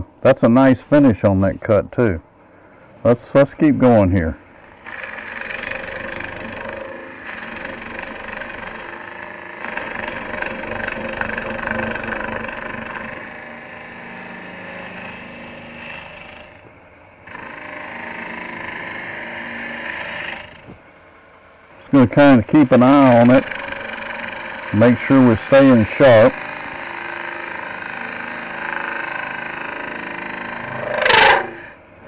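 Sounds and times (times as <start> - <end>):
wood lathe running: 4.4 - 16.7, 17.3 - 31.8
tool scraping spinning wood: 4.6 - 16.6, 17.3 - 31.8.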